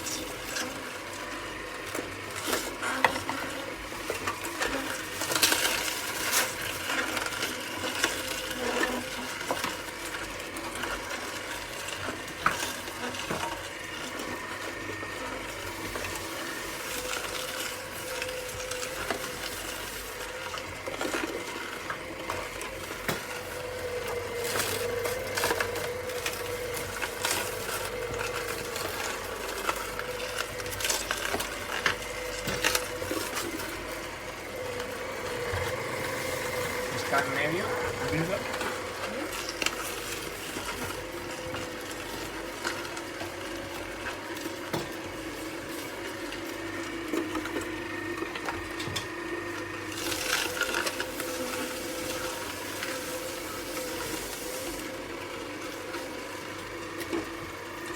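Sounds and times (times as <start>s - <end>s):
juicer motor humming: 0.0s - 57.9s
juicer parts clicking and knocking: 0.1s - 57.9s.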